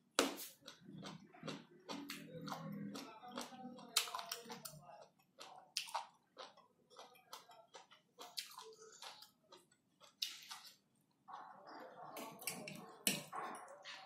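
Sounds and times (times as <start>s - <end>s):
person chewing noodles: 0.0s - 14.0s.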